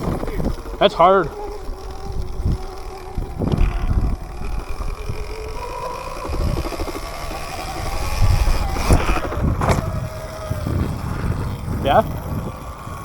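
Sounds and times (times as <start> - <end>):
motorbike accelerating: 0.0 - 13.0
wind buffeting microphone: 0.0 - 13.0.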